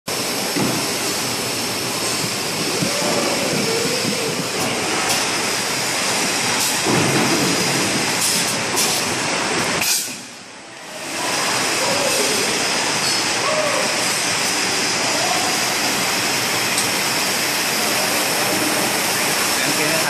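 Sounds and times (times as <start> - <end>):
hiss: 0.1 - 20.0.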